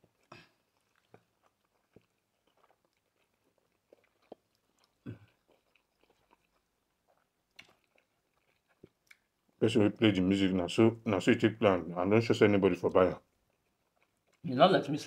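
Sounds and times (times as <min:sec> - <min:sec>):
faint eating noises: 0:00.0 - 0:15.0.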